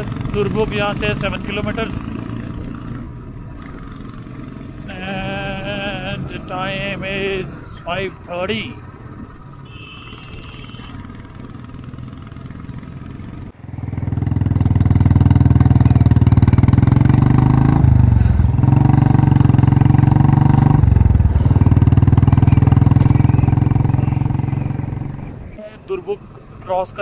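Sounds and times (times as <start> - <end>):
single-cylinder motorcycle engine running: 0.0 - 25.6.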